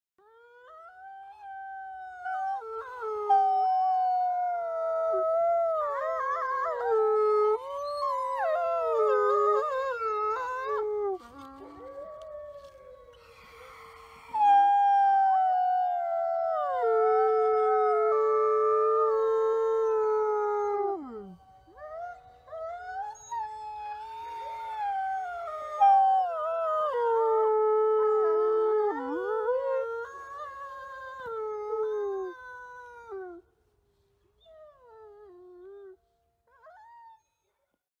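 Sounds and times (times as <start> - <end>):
wolves howling: 0.4 - 33.4.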